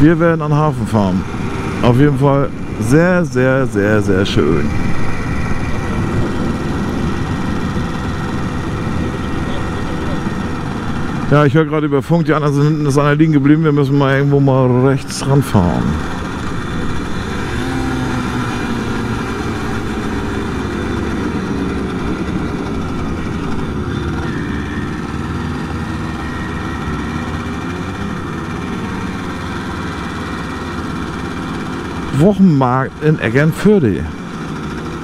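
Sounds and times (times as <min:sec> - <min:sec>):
moped engine running: 0:00.0 - 0:35.0.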